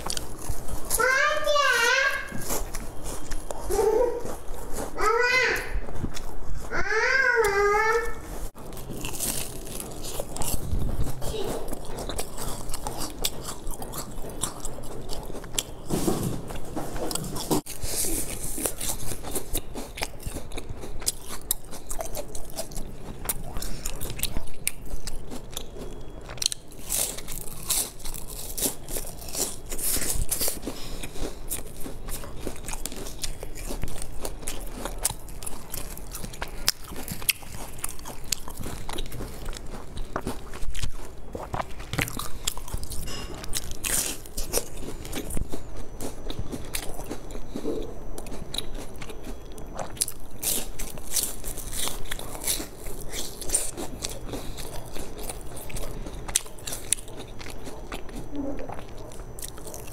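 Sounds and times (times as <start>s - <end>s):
crunching and chewing pastries: 0.0s - 59.9s.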